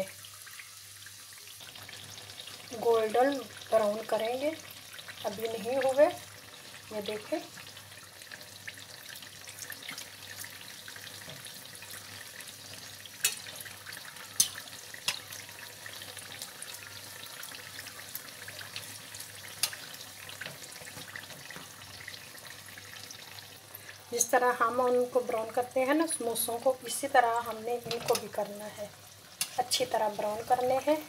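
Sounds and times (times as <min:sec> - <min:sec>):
oil bubbling around pastries: 0:00.0 - 0:31.0
oil sizzling in frying pan: 0:00.0 - 0:31.0.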